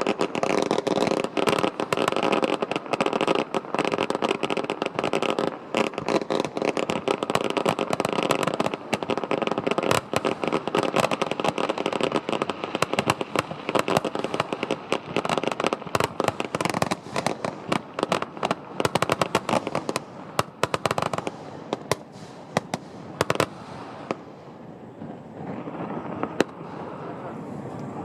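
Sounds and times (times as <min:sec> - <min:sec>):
fireworks cracking: 0:00.0 - 0:28.0.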